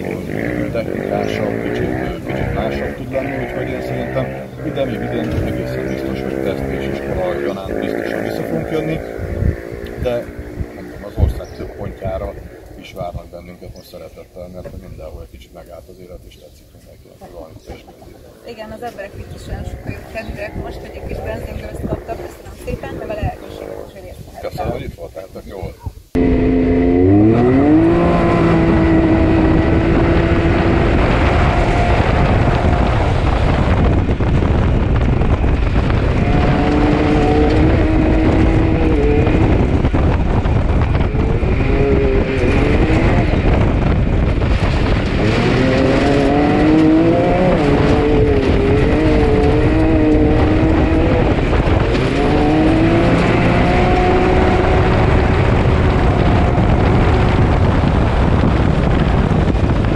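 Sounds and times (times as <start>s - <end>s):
vehicle engine revving: 0.0s - 24.9s, 26.1s - 59.9s
steady rushing noise: 0.0s - 59.9s.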